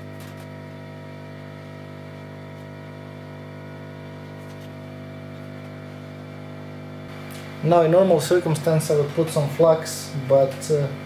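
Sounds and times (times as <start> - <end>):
electronics humming: 0.0 - 11.0.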